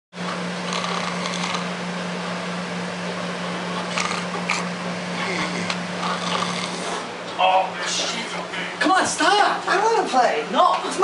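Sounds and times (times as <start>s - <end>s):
low electrical hum: 0.2s - 11.0s.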